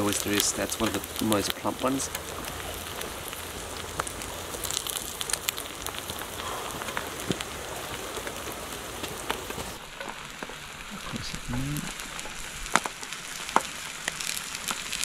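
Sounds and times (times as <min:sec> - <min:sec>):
omelette sizzling in a frying pan: 0:00.0 - 0:15.0.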